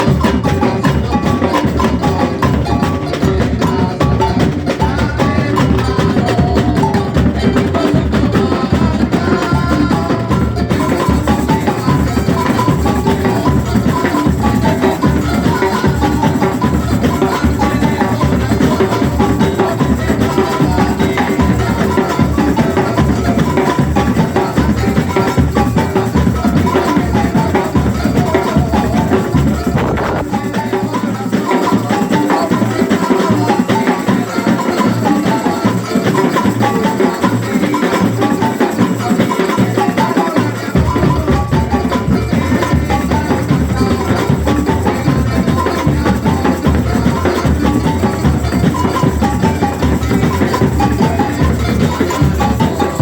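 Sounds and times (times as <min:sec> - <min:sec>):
drum kit playing: 0:00.0 - 0:53.0.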